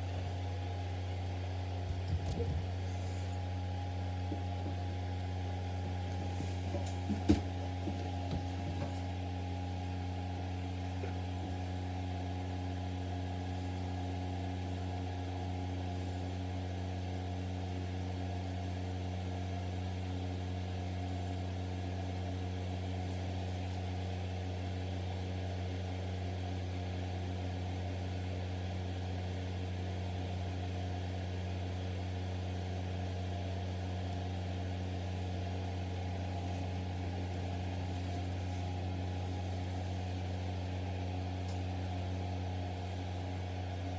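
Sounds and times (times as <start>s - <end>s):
low machine hum: 0.0s - 43.9s.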